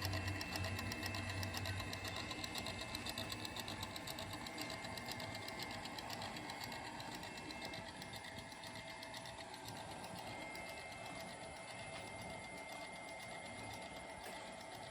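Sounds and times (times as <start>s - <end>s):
fast even ticking spindle: 0.0s - 14.9s
machine motor whine: 0.0s - 14.9s.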